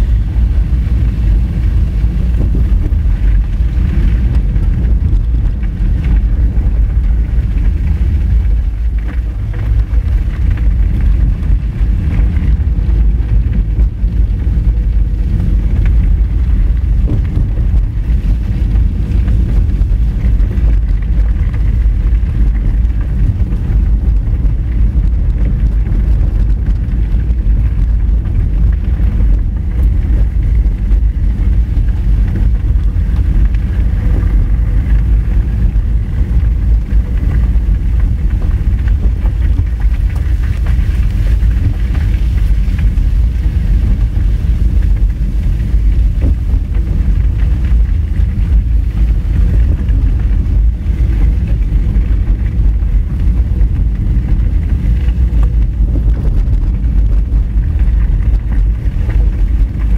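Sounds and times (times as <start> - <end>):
car engine running: 0.0 - 59.9
tyres rumbling on gravel: 0.0 - 59.9
wind on microphone: 0.0 - 59.9.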